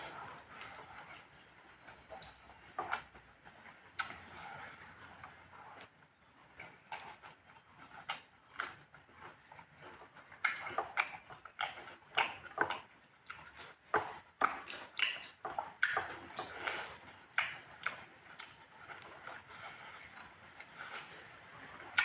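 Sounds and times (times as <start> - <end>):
chewing and lip-smacking: 0.0 - 22.0.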